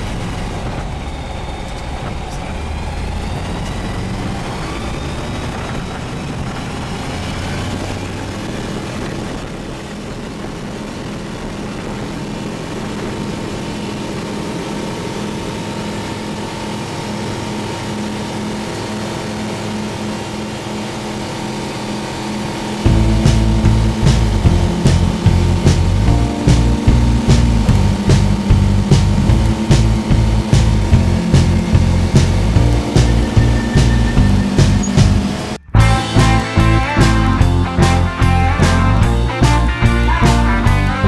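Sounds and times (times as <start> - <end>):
aircraft engine and propeller: 0.0 - 41.0.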